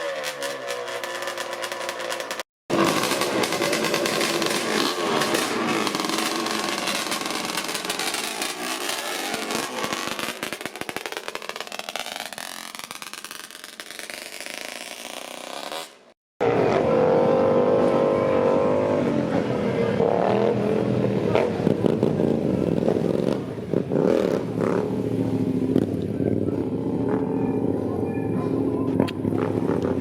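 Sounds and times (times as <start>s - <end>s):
two-stroke motorcycle engine: 0.0s - 13.9s, 16.4s - 30.0s.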